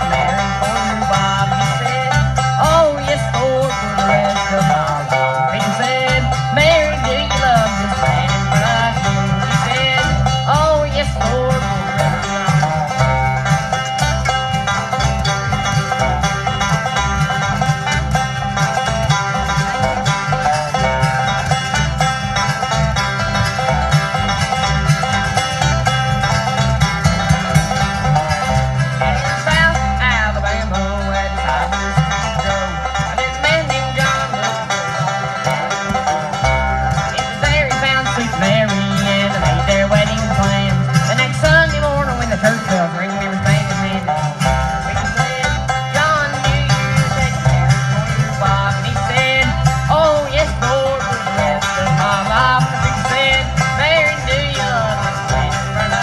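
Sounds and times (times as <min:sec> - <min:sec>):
acoustic guitar: 0:00.0 - 0:56.0
banjo: 0:00.0 - 0:56.0
mandolin: 0:00.0 - 0:56.0
upright bass: 0:00.0 - 0:56.0.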